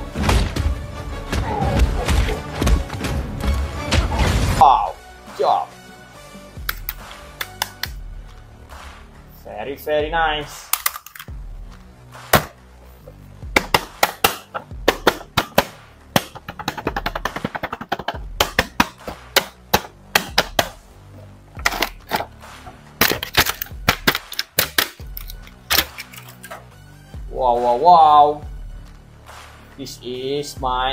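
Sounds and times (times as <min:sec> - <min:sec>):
background music: 0:00.0 - 0:30.9.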